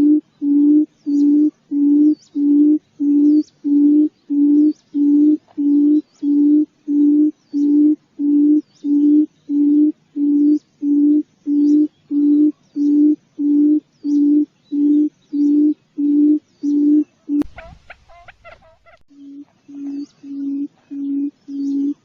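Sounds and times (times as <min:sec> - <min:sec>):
faint high chirp: 0:00.0 - 0:22.0
quail lure call hooting: 0:00.0 - 0:22.0.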